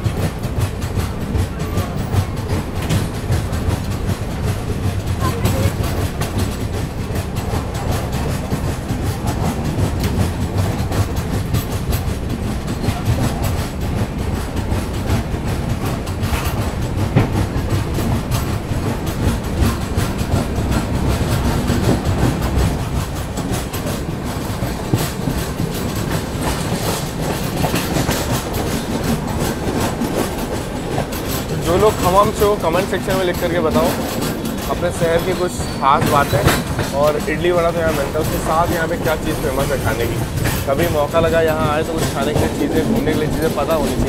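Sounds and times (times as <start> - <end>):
train wheels rumbling on rail: 0.0 - 44.0
wheels clickety-clack over rail joints: 0.0 - 44.0.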